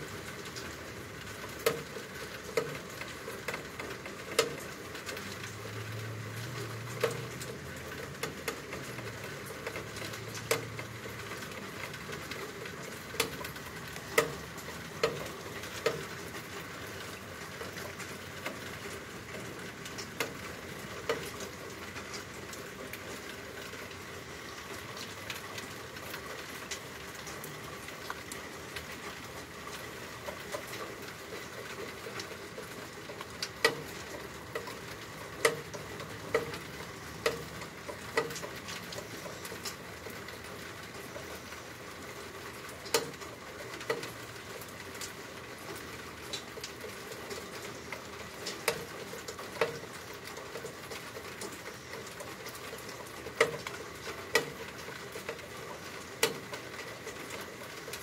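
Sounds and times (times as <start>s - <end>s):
drips splashing: 0.0s - 58.0s
rain falling: 0.0s - 58.0s.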